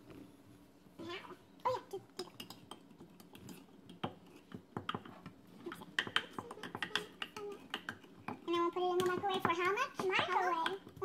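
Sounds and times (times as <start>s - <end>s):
kitchen things clicking and tapping: 1.8s - 11.0s.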